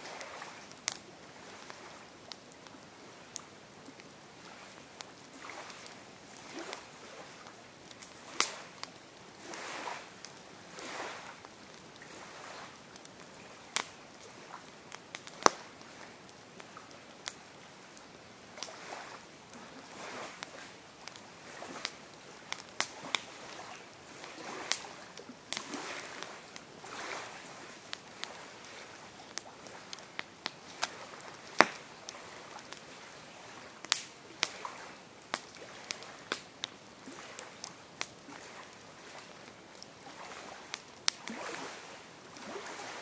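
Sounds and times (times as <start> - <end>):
soft hiss of flames: 0.0 - 43.0
wood crackling and popping: 0.2 - 41.7.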